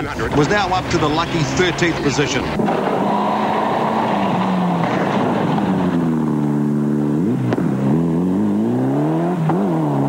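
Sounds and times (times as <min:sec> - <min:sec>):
rally car engine accelerating: 0:00.8 - 0:10.0.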